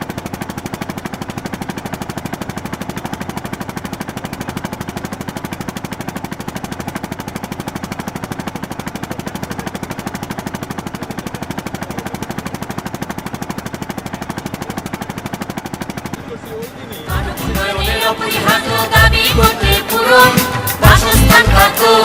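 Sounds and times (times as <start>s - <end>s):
boat engine knocking: 0.0s - 22.0s.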